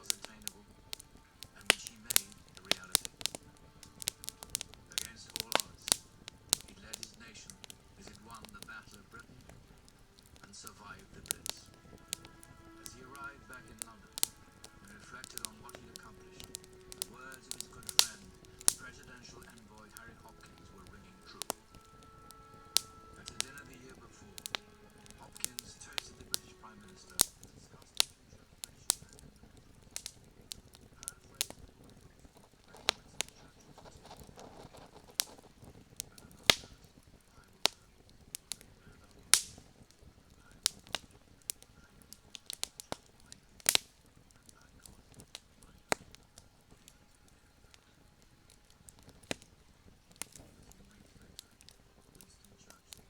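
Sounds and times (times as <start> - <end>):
campfire crackling: 0.0 - 53.0
faint low hiss: 0.0 - 53.0.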